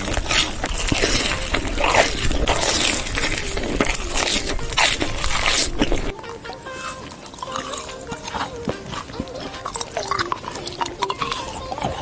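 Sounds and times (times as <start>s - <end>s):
crunching and chewing food: 0.0s - 12.0s.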